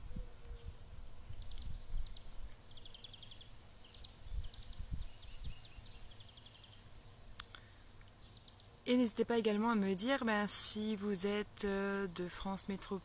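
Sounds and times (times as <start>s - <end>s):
faint chirping trills: 0.0s - 13.0s
low uneven microphone rumble: 0.0s - 13.0s.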